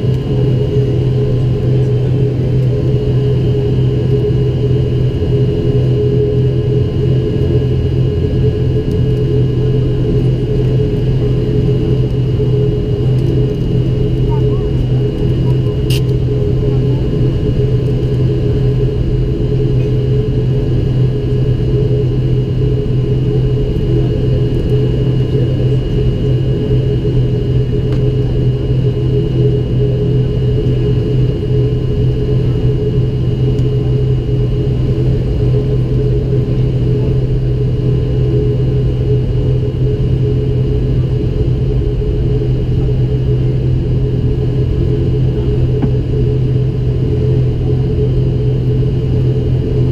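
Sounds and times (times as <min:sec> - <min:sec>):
high engine whine: 0:00.0 - 0:49.9
propeller drone: 0:00.0 - 0:49.9.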